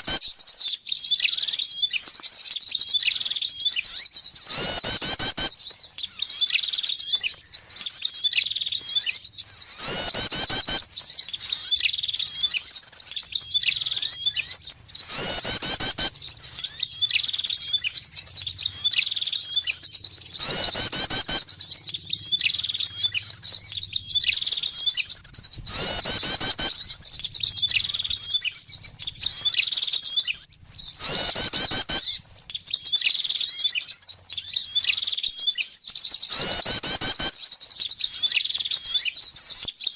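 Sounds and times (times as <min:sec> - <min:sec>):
loud bird call: 0:00.0 - 0:39.9
songbirds twittering: 0:00.0 - 0:39.9.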